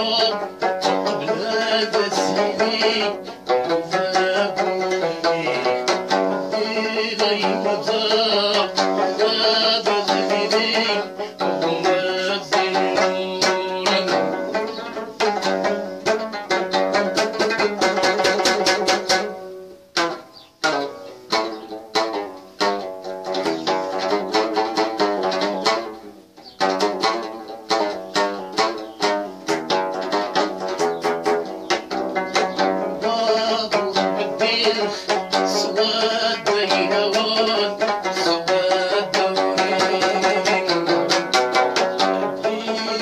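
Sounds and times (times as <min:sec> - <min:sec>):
plucked lute notes: 0:00.0 - 0:43.0.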